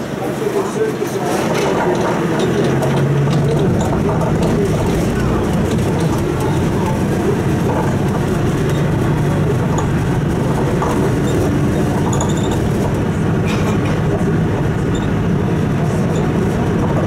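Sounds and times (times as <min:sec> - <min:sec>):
bus engine and road rumble: 0:00.0 - 0:17.0
rattling inside bus: 0:00.0 - 0:17.0.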